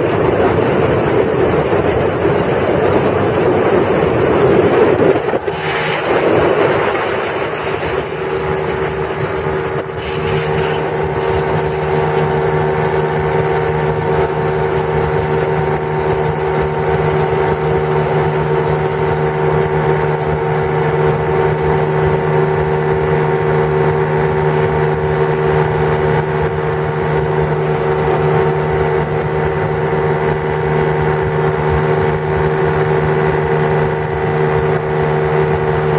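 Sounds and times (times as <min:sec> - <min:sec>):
aircraft engine and propeller droning: 0:00.0 - 0:35.9
wind rushing over microphone: 0:00.0 - 0:35.9.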